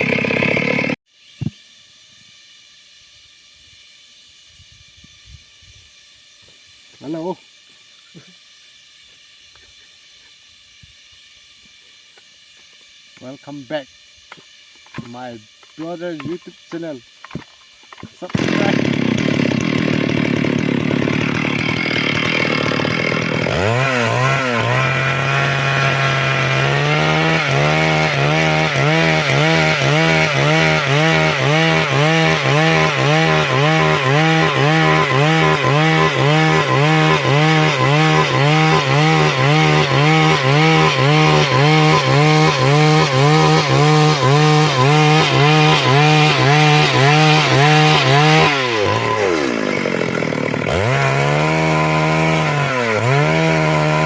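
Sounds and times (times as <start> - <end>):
chainsaw cutting wood: 0.0 - 2.0, 11.5 - 54.0.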